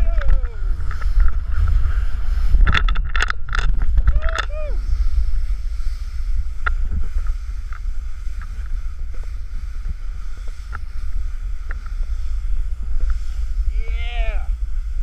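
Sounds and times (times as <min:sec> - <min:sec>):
snowboard sliding on snow: 0:00.0 - 0:02.6, 0:03.6 - 0:15.0
wind rumbling on microphone: 0:00.0 - 0:15.0.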